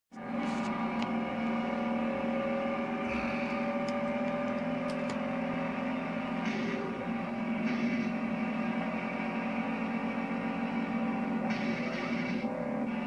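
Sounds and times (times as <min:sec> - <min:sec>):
car engines running: 0:00.1 - 0:13.0.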